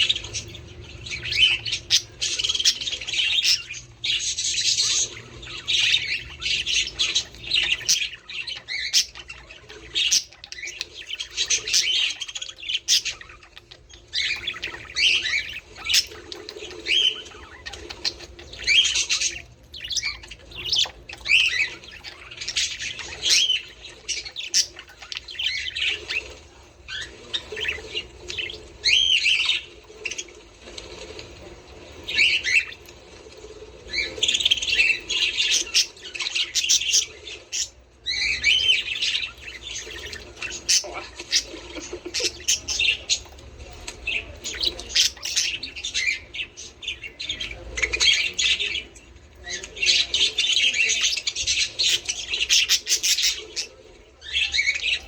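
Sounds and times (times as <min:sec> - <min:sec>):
budgerigars chattering: 0:00.0 - 0:33.0, 0:33.8 - 0:55.0.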